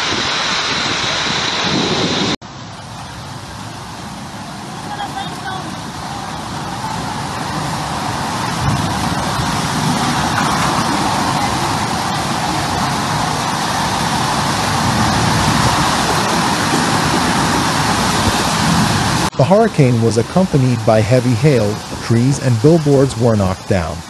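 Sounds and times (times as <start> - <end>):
storm wind on microphone: 0.0 - 20.5, 21.1 - 22.7
driving rain: 0.0 - 24.0.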